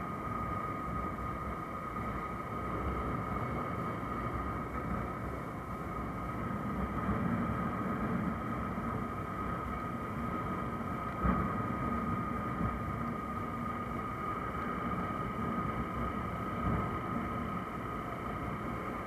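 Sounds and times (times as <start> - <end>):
thin steady whine: 0.0 - 19.0
wind and road noise: 0.0 - 19.0.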